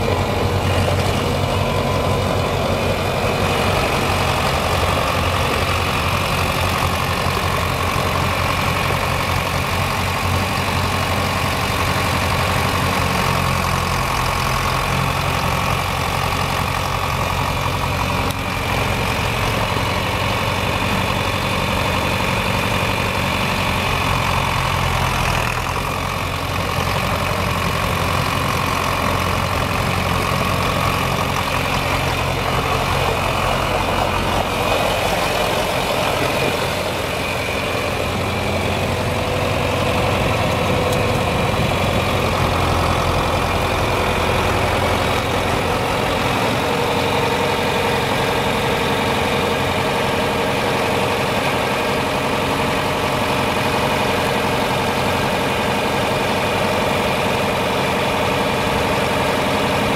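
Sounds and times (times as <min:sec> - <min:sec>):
tractor engine running at low speed: 0:00.0 - 0:59.9.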